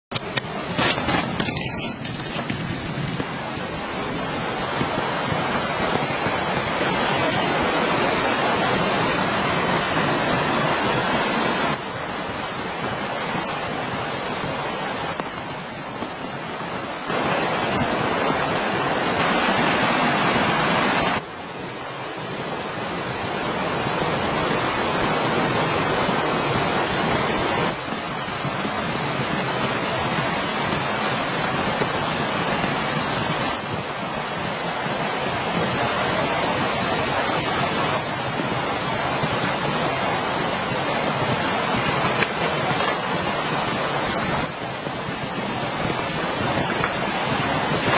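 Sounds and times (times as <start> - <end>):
steady rain falling: 0.1 - 47.9.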